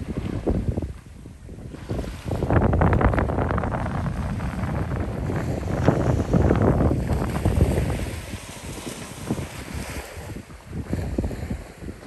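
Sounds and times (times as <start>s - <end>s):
small waves washing onto beach: 0.0s - 12.0s
wind buffeting microphone: 0.0s - 12.0s.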